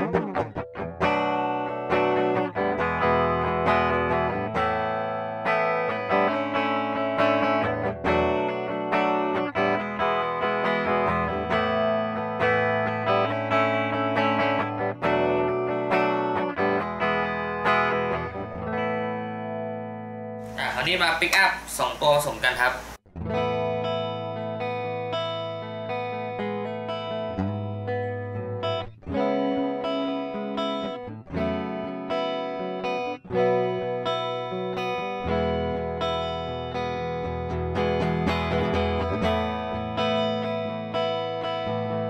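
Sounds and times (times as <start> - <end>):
clean electric guitar notes and chords: 0.0 - 20.6, 23.1 - 42.0.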